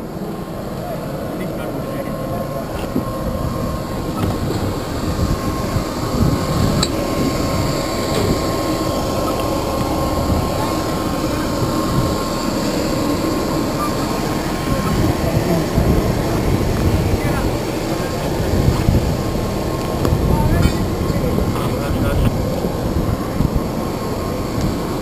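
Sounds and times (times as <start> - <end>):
aircraft turbine engine running: 0.0 - 25.0
wind gusting on microphone: 0.0 - 25.0.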